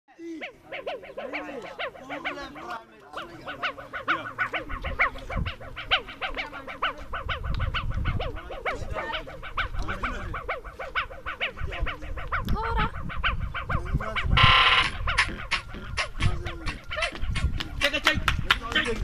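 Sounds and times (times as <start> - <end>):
flock of birds calling: 0.2 - 17.8.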